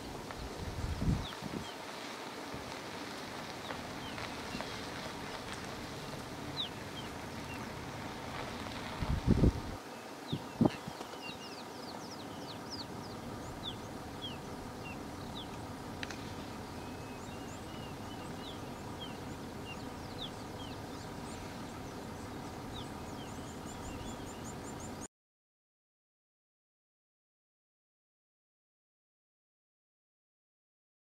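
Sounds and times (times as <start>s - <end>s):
birds chirping: 0.0s - 25.1s
low outdoor background noise: 0.0s - 25.1s.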